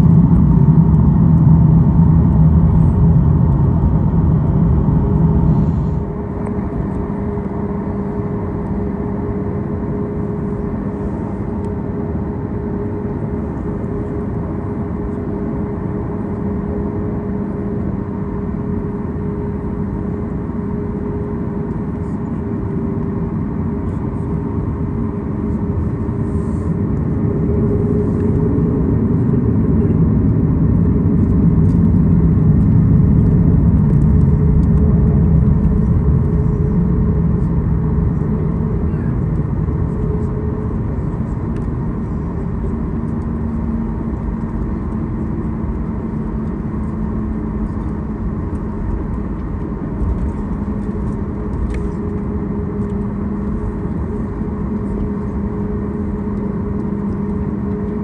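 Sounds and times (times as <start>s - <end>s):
jet engines humming near idle: 0.0s - 58.0s
rolling aircraft rumble: 0.0s - 58.0s.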